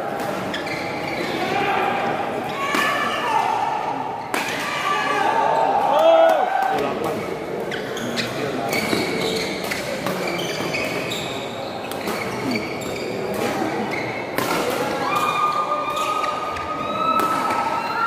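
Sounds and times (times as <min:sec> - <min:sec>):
murmur of spectators: 0:00.0 - 0:18.0.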